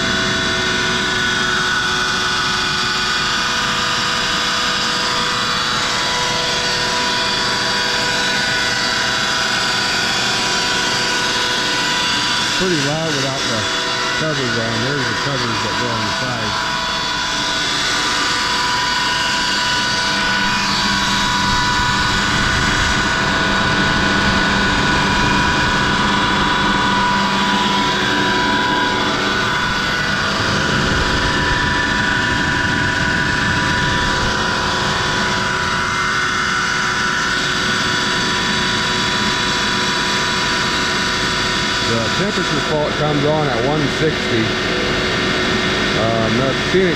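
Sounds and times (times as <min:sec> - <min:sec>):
air compressor whine and hum: 0:00.0 - 0:46.9.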